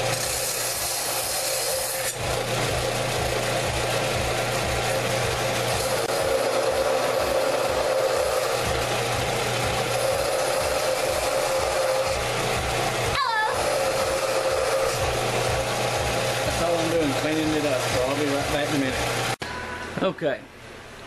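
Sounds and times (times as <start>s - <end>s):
power tool abrading steel: 0.0s - 19.4s.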